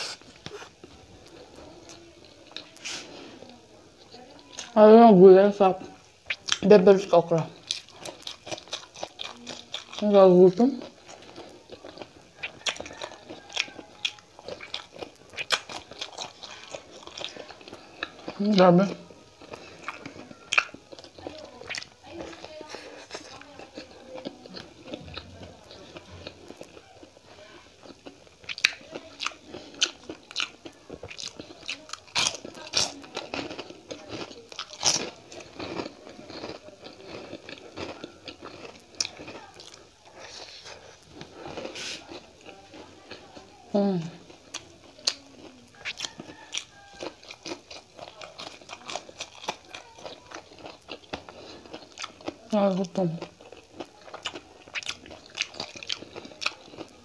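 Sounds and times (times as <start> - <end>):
crunchy chewing: 0.0 - 4.8, 5.7 - 57.0.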